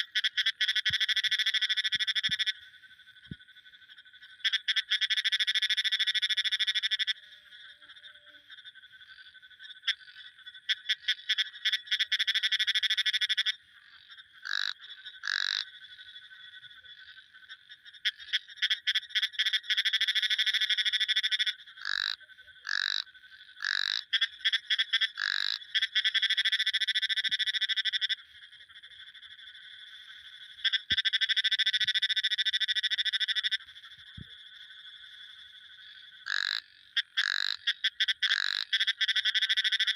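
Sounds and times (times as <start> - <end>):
frog single croaks: 0.0 - 39.9
frogs pulsed trills: 0.0 - 39.9.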